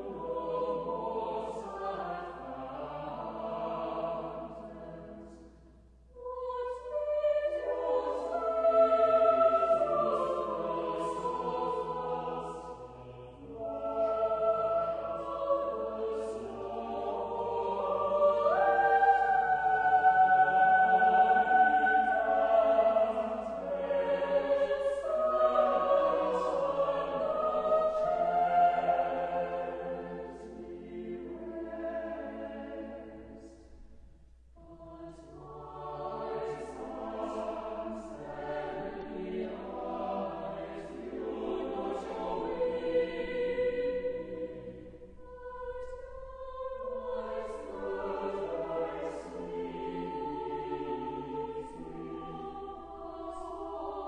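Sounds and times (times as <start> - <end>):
choir singing held notes: 0.0 - 33.7, 34.6 - 54.0.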